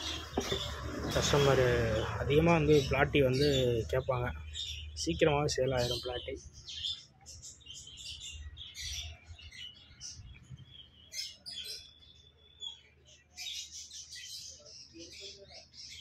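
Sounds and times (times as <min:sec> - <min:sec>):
cage birds chirping: 0:00.0 - 0:16.0.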